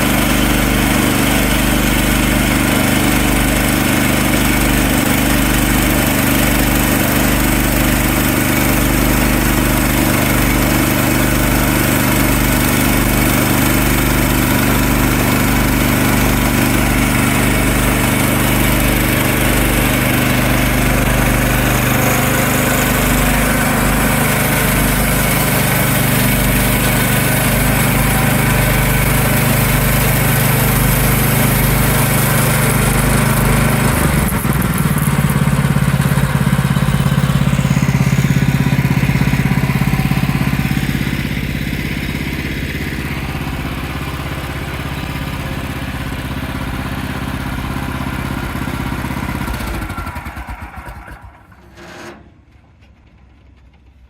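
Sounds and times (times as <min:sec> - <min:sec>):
sawmill gas engine running: 0:00.0 - 0:54.0.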